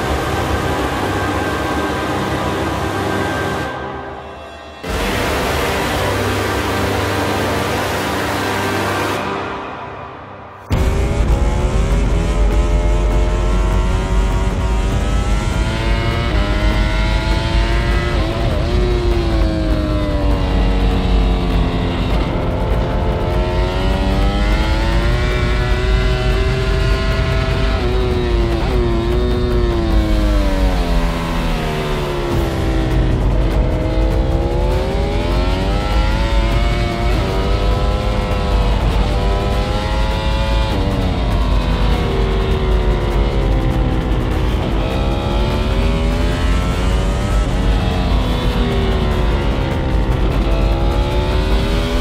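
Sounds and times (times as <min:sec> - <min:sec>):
motorcycle engine at speed: 0:00.0 - 0:04.2, 0:04.8 - 0:10.0, 0:10.6 - 0:52.0.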